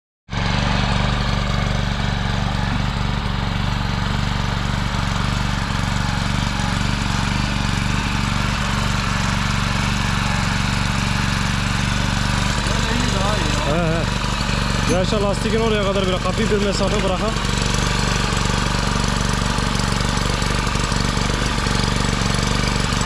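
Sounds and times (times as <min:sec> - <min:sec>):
engine running steadily: 0:00.3 - 0:23.0.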